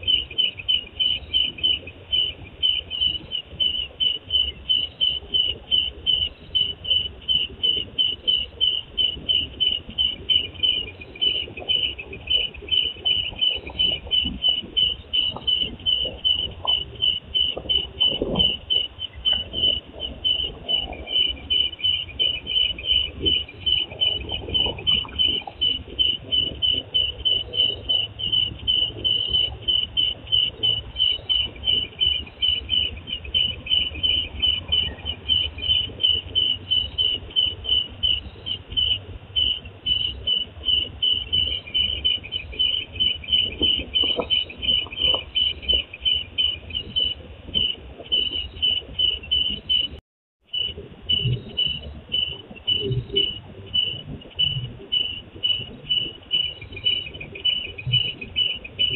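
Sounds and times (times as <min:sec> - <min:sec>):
faint low rumble: 0:00.0 - 0:58.9
insect chirping: 0:00.0 - 0:58.9.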